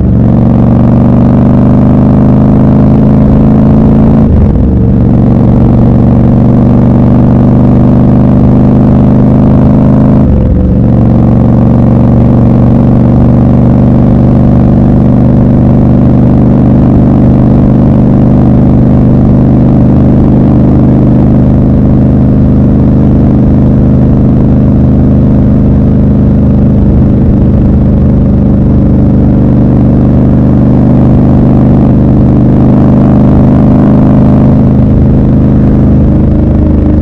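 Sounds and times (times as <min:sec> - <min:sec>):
motorcycle engine cruising: 0:00.0 - 0:37.0.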